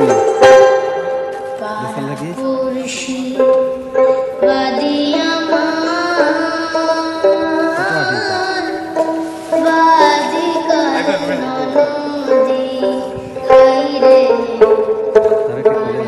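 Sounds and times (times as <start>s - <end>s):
background music with melody: 0.0s - 16.0s.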